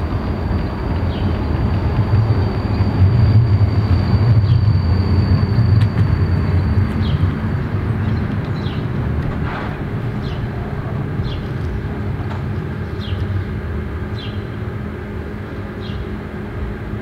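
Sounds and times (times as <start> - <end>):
high whine of tram: 0.0 - 17.0
tram rumbling: 0.0 - 17.0.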